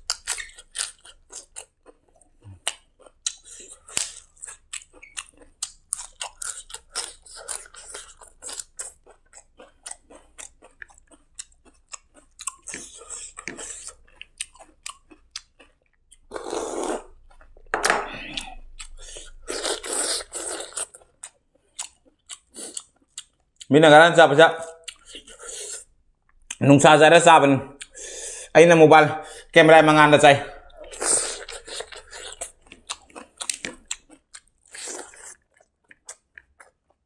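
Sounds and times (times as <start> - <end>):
wet chewing and mouth smacks: 0.0 - 16.5, 18.3 - 23.7, 24.7 - 26.6, 30.5 - 37.0.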